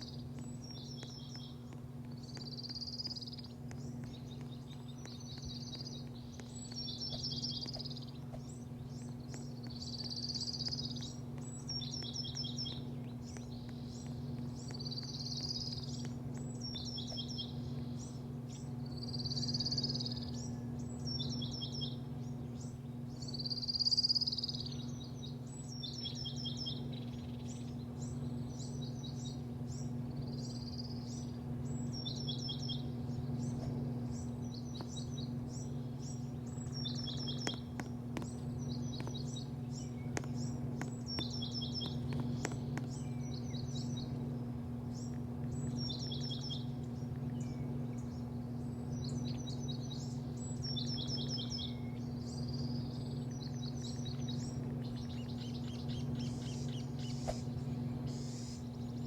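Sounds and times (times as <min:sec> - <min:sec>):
bird singing: 0:00.0 - 0:59.0
steady low hum: 0:00.0 - 0:59.0.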